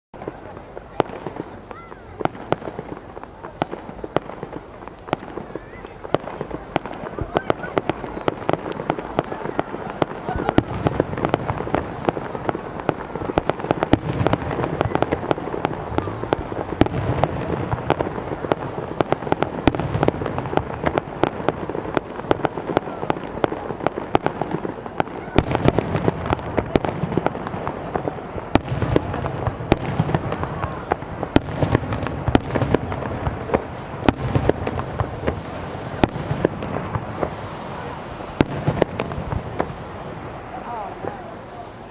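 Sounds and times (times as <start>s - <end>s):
fireworks bursting with sharp bangs: 0.1s - 41.9s
dense wash of noise: 5.9s - 41.9s.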